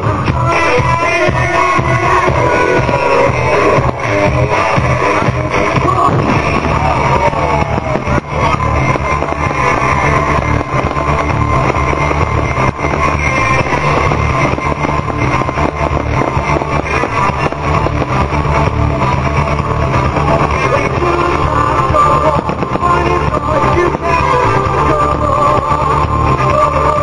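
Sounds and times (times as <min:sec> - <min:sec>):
loud rock music: 0:00.0 - 0:27.0.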